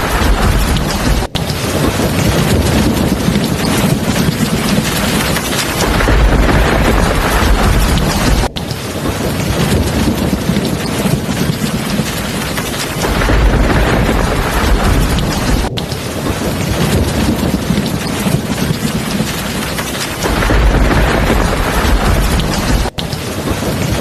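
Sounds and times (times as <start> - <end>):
heavy rain pouring: 0.0 - 24.0
thunder rumbling: 0.0 - 24.0.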